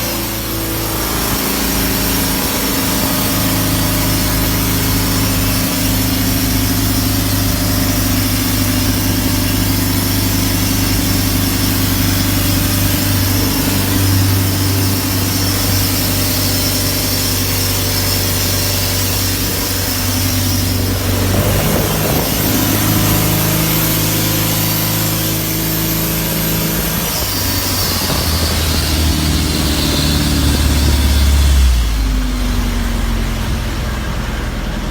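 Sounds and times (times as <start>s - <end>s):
boat diesel engine running: 0.0s - 34.9s.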